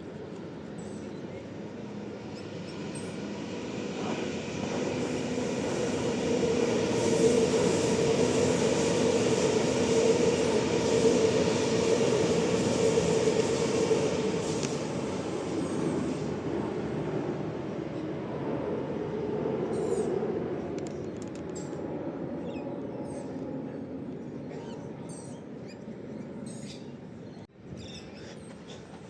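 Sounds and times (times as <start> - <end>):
electric train passing: 0.2 - 24.0.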